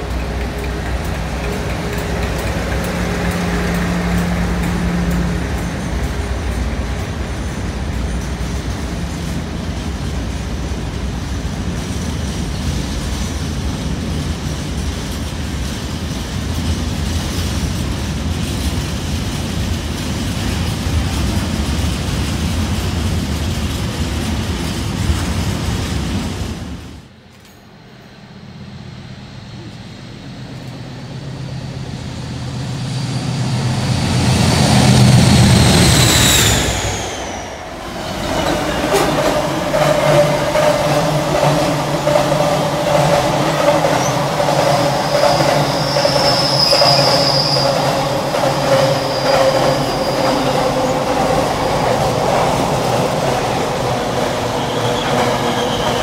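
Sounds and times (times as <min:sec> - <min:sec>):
wagon wheels rumbling on rails: 0:00.0 - 0:27.1, 0:34.3 - 0:56.0
diesel locomotive engine: 0:00.0 - 0:56.0.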